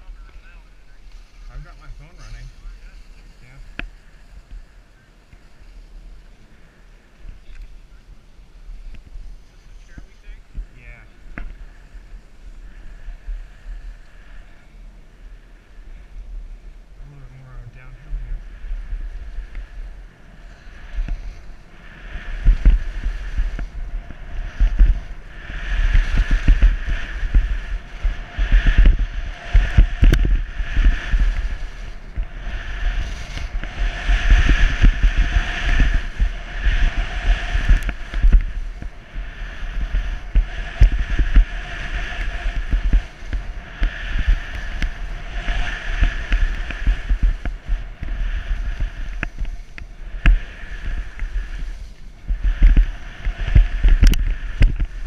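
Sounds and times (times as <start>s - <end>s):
skis scraping across snow: 0.0s - 55.0s
wind rumble on microphone: 0.0s - 55.0s.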